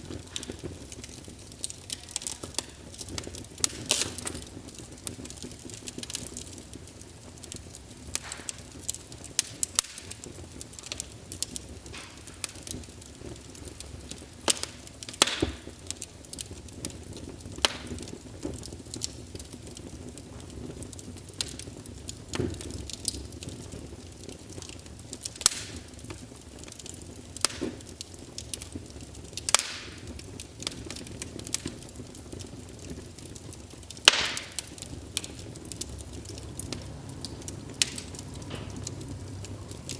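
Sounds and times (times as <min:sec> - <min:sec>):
low rush of flame: 0:00.0 - 0:39.9
wood fire crackling: 0:00.0 - 0:39.9.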